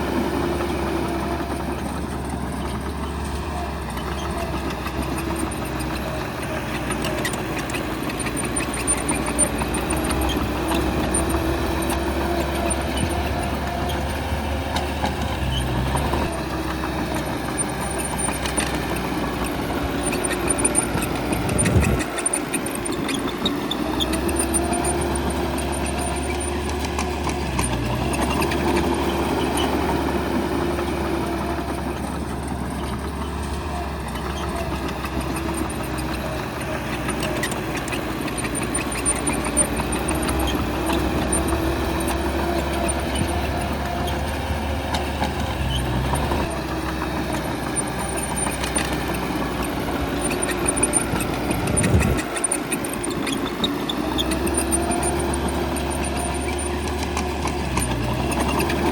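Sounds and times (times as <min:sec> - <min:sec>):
bulldozer diesel engine working: 0:00.0 - 0:58.9.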